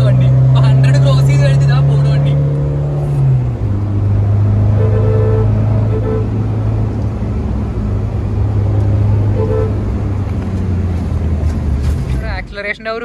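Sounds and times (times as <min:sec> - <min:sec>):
diesel engine droning: 0:00.0 - 0:13.0
road noise: 0:00.0 - 0:13.0.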